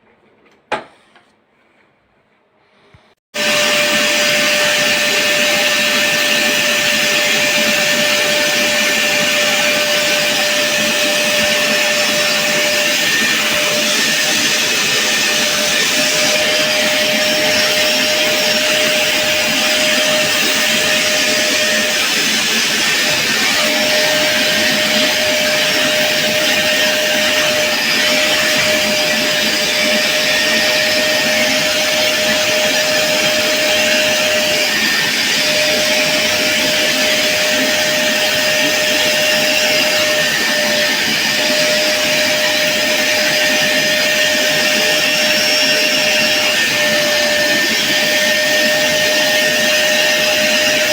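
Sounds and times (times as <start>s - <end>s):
vacuum cleaner motor running: 3.4s - 50.9s.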